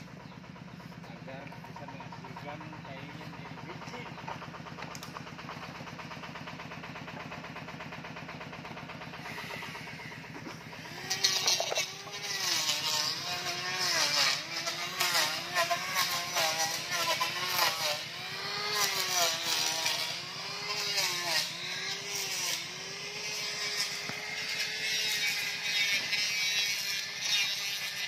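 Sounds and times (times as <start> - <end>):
electric hand planer running: 0.0 - 28.0
planer shaving wood: 0.0 - 28.0.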